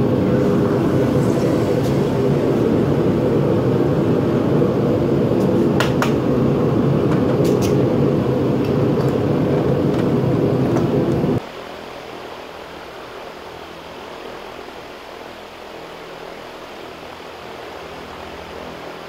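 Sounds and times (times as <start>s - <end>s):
furnace burner rumbling: 0.0s - 19.0s.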